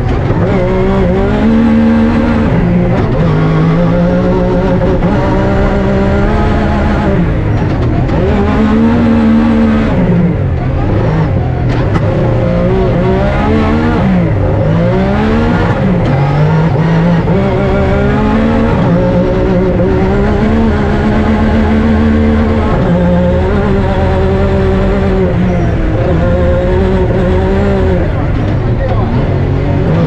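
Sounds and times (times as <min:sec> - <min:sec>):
rally car engine accelerating: 0:00.0 - 0:30.0.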